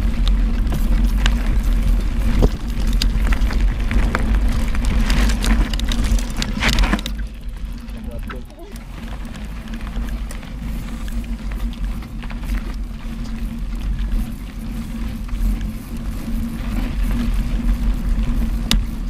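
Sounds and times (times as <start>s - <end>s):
bike rattles and clicks: 0.0s - 19.0s
tyres rolling over dirt and gravel: 0.0s - 19.0s
wind on microphone: 0.0s - 19.0s.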